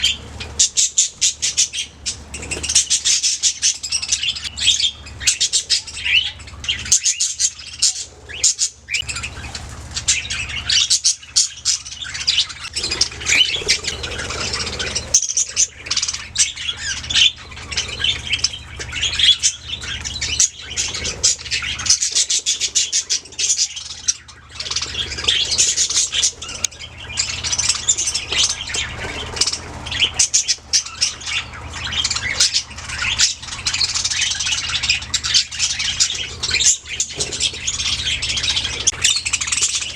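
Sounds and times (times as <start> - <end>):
bird squawks: 0.0 - 39.9
budgerigars chirping and warbling: 0.0 - 39.9
low steady hum: 0.0 - 39.9.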